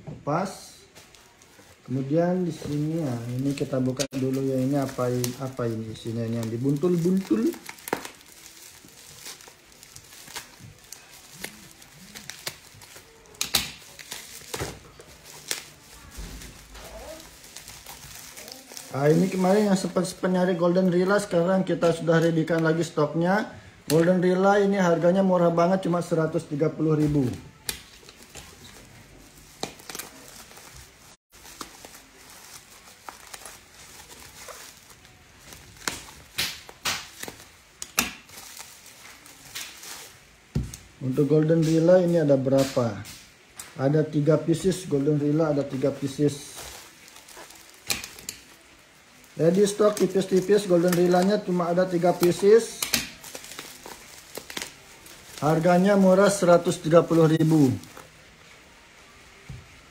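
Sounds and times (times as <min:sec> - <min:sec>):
plastic wrap crinkling: 0:00.6 - 0:23.0, 0:23.8 - 0:59.9.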